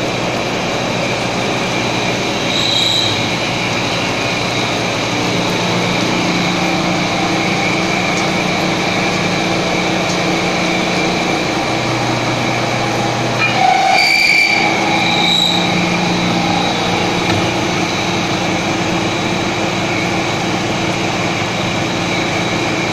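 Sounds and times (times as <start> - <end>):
low machine hum: 0.0 - 22.9.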